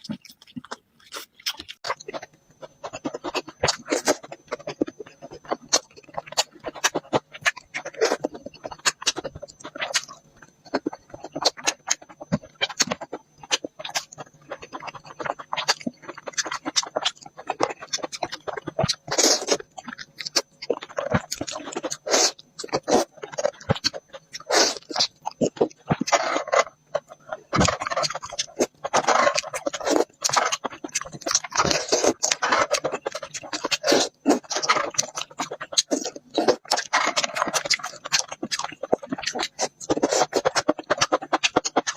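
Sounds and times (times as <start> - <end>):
chewing and mouth smacking: 0.0 - 41.9
crunchy bites: 0.0 - 41.9.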